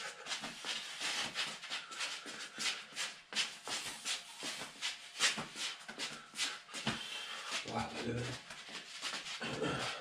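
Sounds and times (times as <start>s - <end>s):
sneakers scuffing on concrete: 0.3s - 9.5s.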